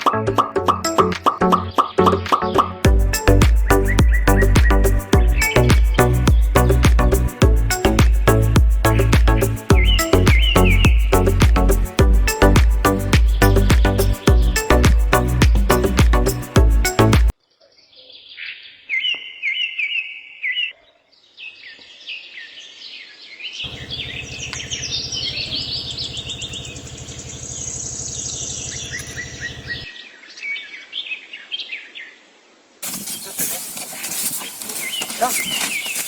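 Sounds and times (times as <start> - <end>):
small birds chirping: 2.4 - 32.0, 32.8 - 36.0.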